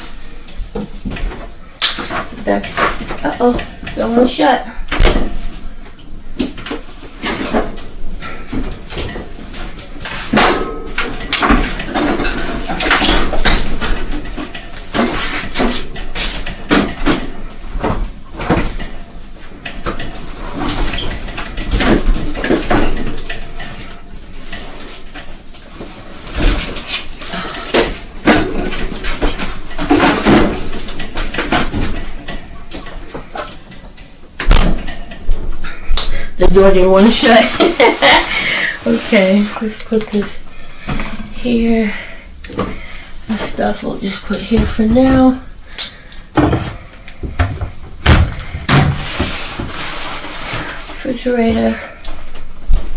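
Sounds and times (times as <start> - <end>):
packages clunking in freezer: 0.6 - 36.0, 37.1 - 52.9.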